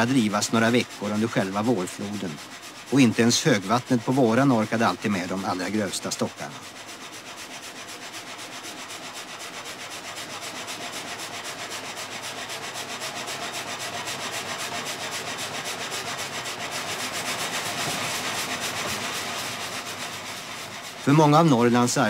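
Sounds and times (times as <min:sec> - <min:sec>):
saw rasping through log: 0:00.0 - 0:22.0.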